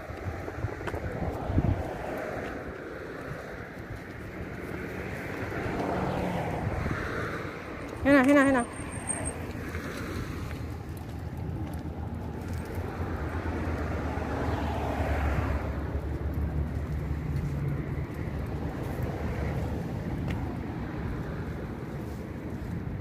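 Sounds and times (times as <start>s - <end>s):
street traffic rumble: 0.0s - 23.0s
vehicle passing: 0.0s - 23.0s.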